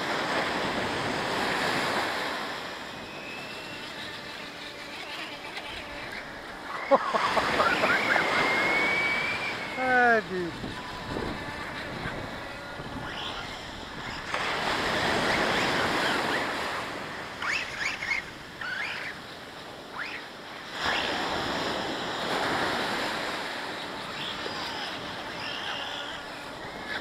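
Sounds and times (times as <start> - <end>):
surf breaking on beach: 0.0 - 19.9, 20.6 - 27.0.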